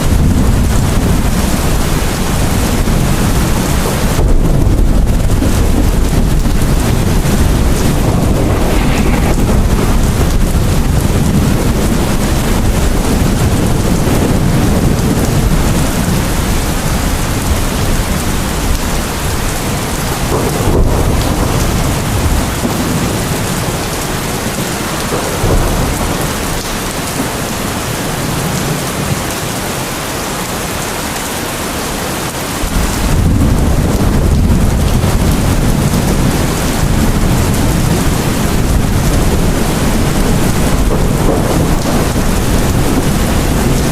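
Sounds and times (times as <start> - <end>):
thunder rumbling: 0.0 - 29.3, 32.6 - 43.9
heavy rain: 0.0 - 43.9.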